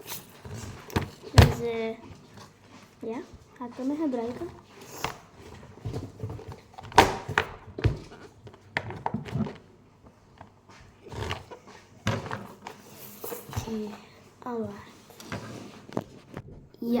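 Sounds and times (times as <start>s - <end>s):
thumps and handling noises: 0.0s - 17.0s.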